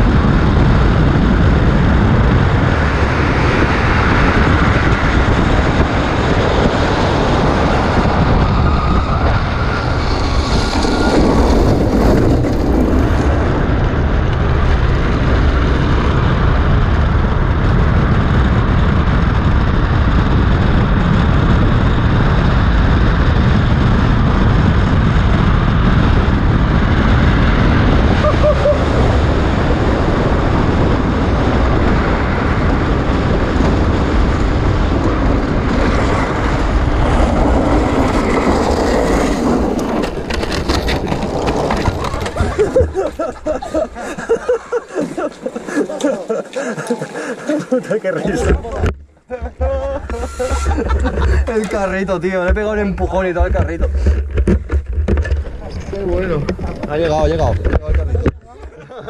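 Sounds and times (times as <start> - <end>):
tyres rolling on asphalt: 0.0 - 18.2, 18.8 - 59.0
wind rush on microphone: 0.0 - 59.0.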